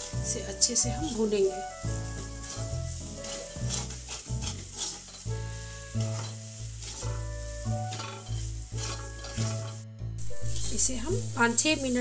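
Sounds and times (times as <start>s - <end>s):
wooden spatula scraping pan: 0.0s - 11.3s
background music: 0.0s - 12.0s
food sizzling in oil: 0.0s - 12.0s.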